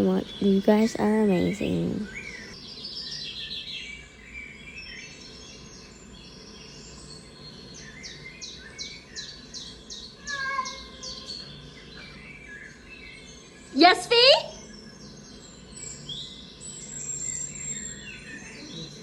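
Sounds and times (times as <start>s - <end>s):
songbirds chirping through speaker: 0.0s - 19.0s.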